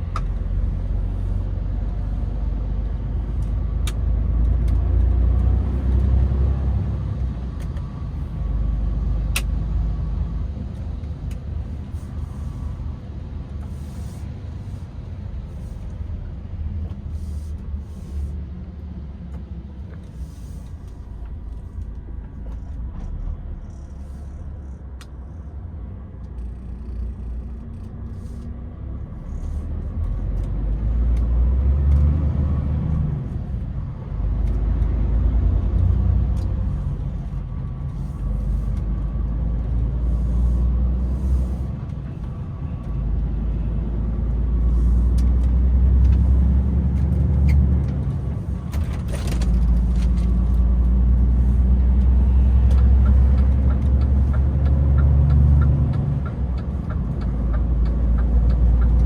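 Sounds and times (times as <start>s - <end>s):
road noise: 0.0s - 59.0s
truck engine rumble: 0.0s - 59.0s.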